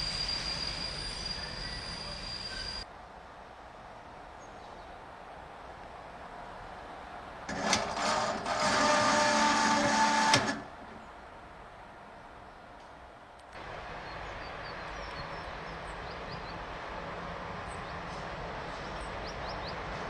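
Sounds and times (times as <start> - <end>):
train rumbling on track: 0.0 - 20.0.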